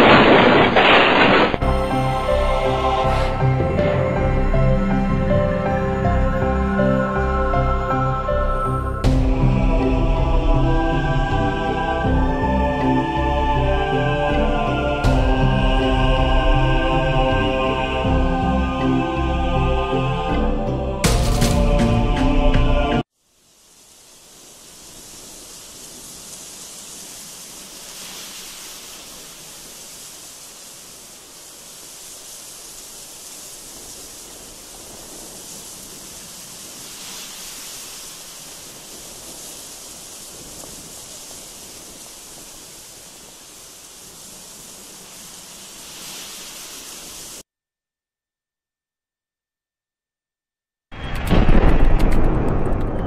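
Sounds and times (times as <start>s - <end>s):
steady rushing hiss: 0.0s - 47.4s.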